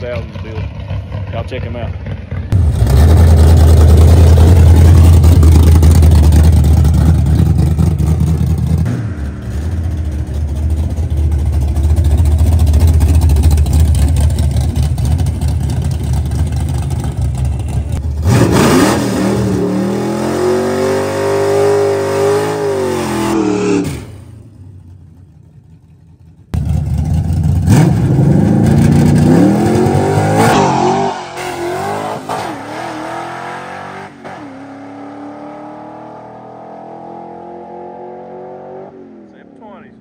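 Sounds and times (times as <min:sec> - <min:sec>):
car engine revving: 0:00.0 - 0:24.5, 0:26.5 - 0:40.0.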